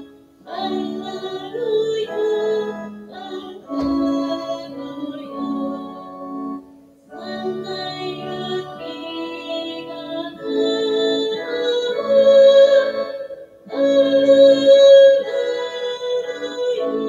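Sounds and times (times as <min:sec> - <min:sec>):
music with singing: 0:00.0 - 0:17.0.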